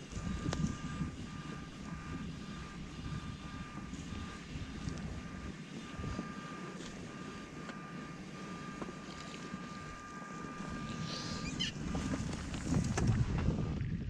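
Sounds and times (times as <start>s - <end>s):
wind buffeting microphone: 0.0s - 7.2s, 9.8s - 14.0s
faint thin whine: 0.0s - 14.0s.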